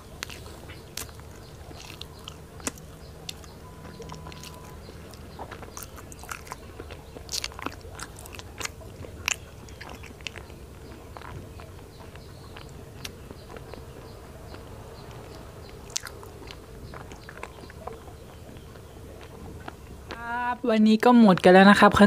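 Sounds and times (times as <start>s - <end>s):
faint steady hum: 0.0s - 22.0s
mouth chewing food: 0.0s - 22.0s.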